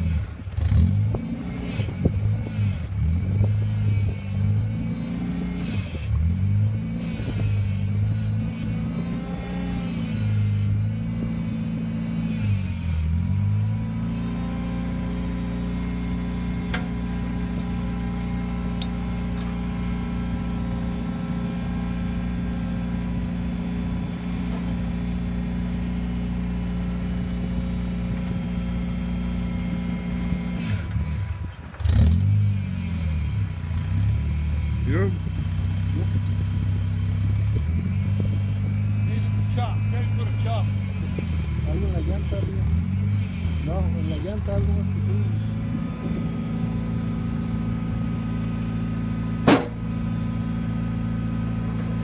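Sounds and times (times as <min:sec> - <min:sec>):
log splitter engine running: 0:00.0 - 0:52.0.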